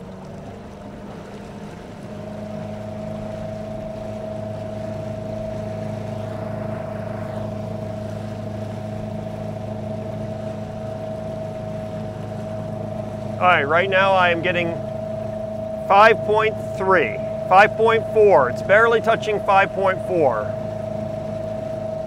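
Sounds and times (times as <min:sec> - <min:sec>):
electric outboard motor whining: 0:00.0 - 0:22.0.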